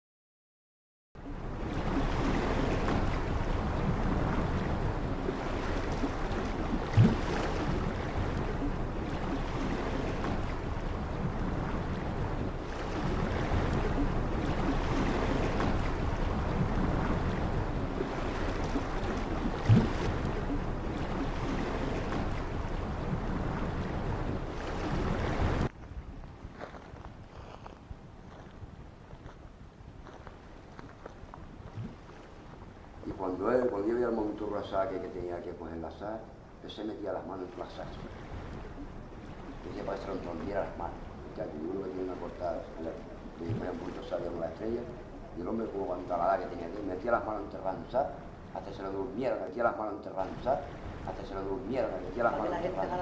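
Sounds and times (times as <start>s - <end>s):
waves: 1.2s - 53.0s
wind: 1.2s - 53.0s.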